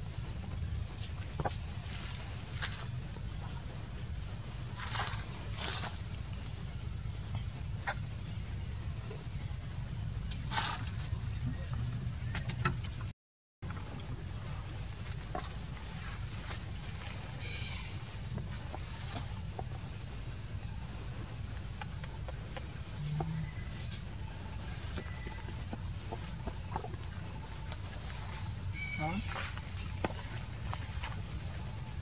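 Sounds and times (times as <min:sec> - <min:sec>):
forest insects droning: 0:00.0 - 0:32.0.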